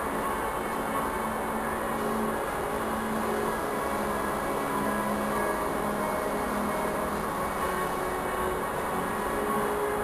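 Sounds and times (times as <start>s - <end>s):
music of held notes: 0.0s - 10.0s
steady hiss: 0.0s - 10.0s.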